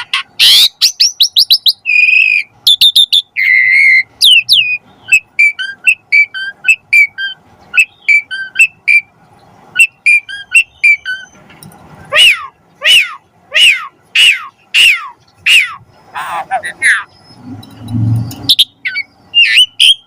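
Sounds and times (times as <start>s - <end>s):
bird chirping notes: 0.0s - 20.0s.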